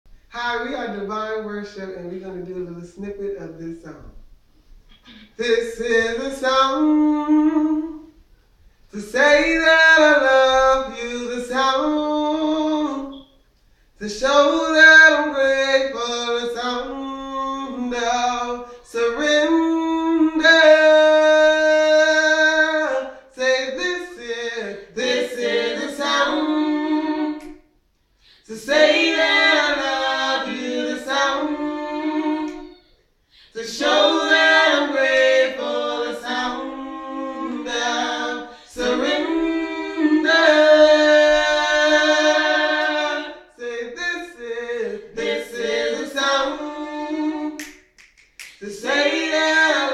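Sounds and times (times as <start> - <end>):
group singing a cappella: 8.9 - 13.4, 14.0 - 49.9.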